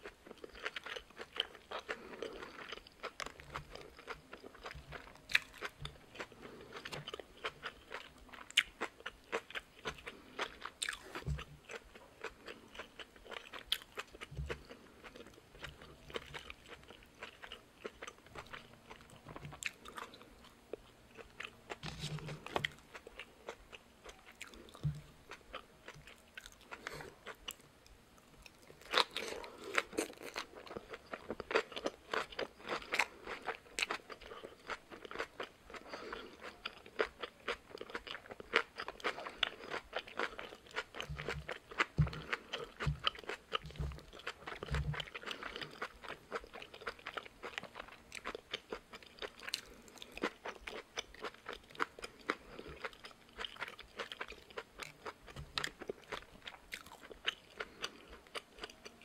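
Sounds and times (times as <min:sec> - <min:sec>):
chewing crisp cabbage: 0:00.0 - 0:59.0.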